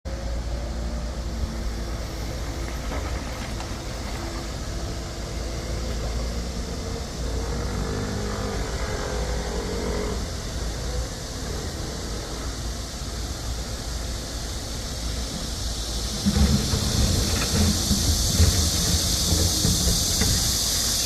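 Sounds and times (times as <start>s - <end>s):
diesel engine rumbling: 0.1s - 21.0s.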